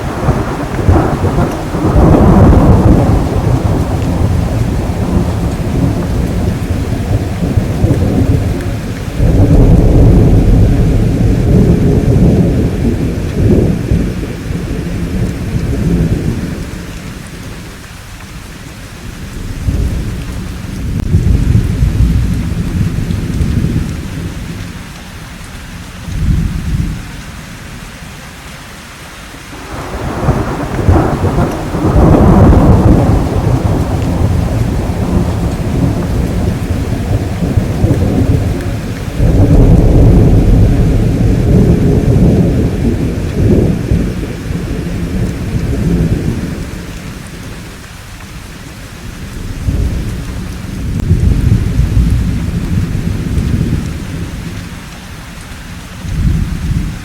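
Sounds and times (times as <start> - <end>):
thunder rumbling: 0.0 - 27.8, 29.5 - 55.3, 56.0 - 57.0
steady rain: 0.0 - 57.0.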